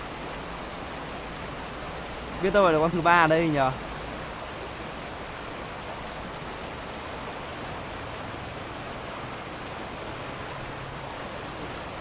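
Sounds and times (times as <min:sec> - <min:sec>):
stream rushing over rapids: 0:00.0 - 0:12.0.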